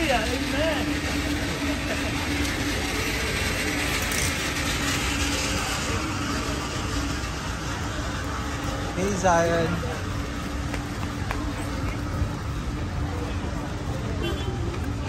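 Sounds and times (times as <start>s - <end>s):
faint engine drone: 0.0s - 15.0s
traffic hum: 0.0s - 15.0s.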